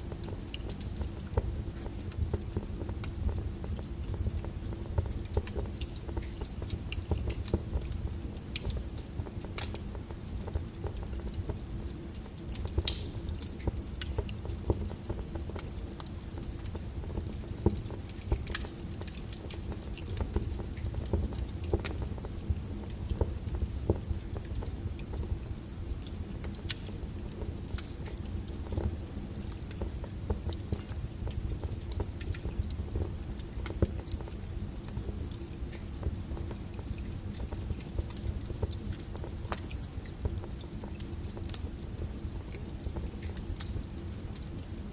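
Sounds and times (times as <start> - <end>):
logs crackling and popping: 0.0 - 44.9
low noise of flames: 0.0 - 44.9.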